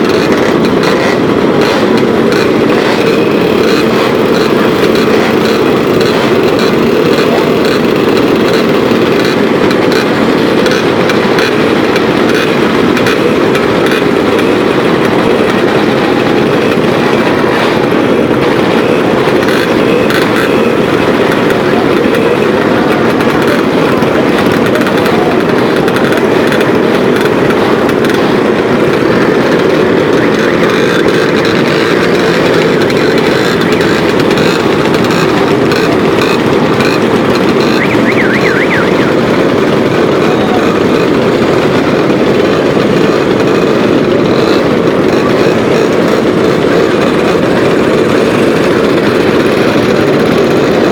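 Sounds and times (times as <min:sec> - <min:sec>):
motorcycle engines running: 0:00.0 - 0:50.9.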